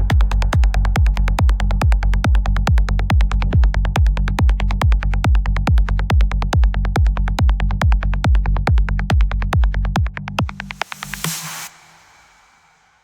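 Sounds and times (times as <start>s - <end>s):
kick drum: 0.0s - 11.4s.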